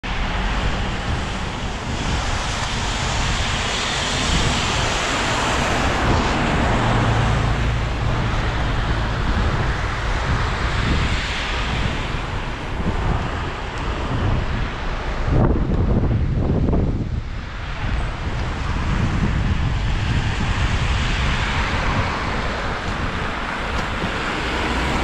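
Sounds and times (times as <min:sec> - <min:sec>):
bus engine droning: 0:00.0 - 0:25.0
tyres hissing on wet asphalt: 0:00.1 - 0:16.0, 0:17.0 - 0:25.0
car passing: 0:00.1 - 0:25.0.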